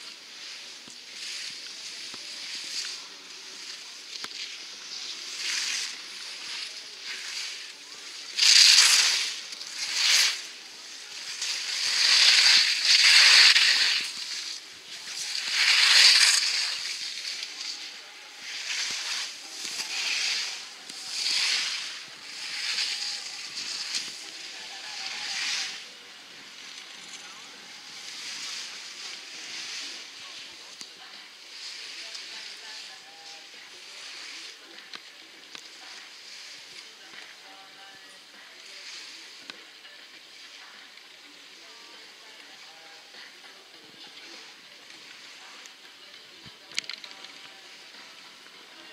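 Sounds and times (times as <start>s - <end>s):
skis scraping over snow: 0.0s - 39.3s.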